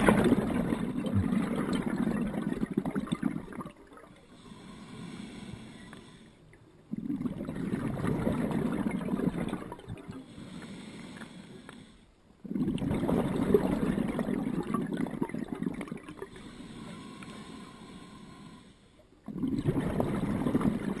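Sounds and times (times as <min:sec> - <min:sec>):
underwater exhaled bubbles: 0:00.0 - 0:21.0.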